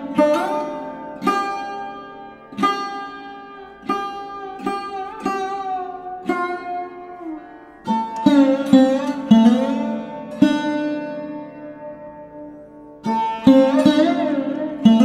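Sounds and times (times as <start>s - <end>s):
plucked string instrument notes: 0.0s - 15.0s.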